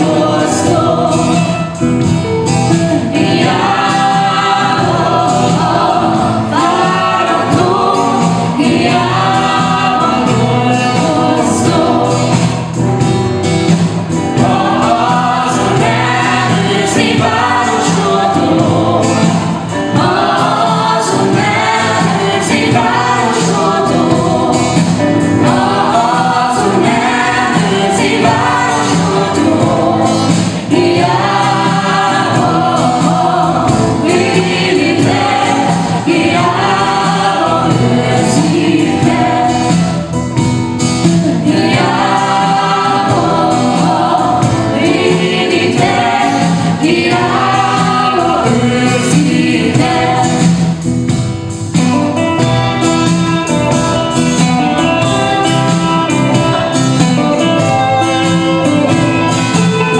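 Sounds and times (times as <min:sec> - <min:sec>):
group singing worship song: 0:00.0 - 0:59.9
live instrumental accompaniment: 0:00.0 - 0:59.9.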